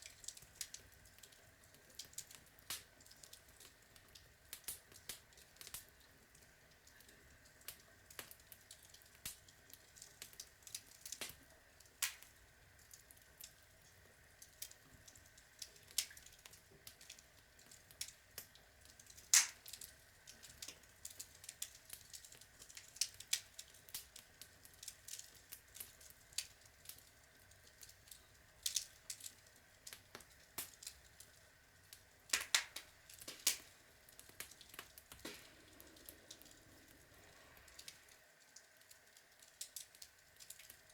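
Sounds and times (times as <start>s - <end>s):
faint steady hiss: 0.0s - 40.9s
wood fire crackling and popping: 0.0s - 40.9s.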